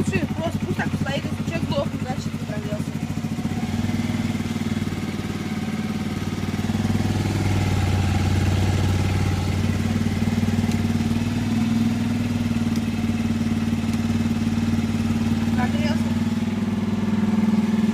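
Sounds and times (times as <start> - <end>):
motorcycle engine idling: 0.0 - 17.9.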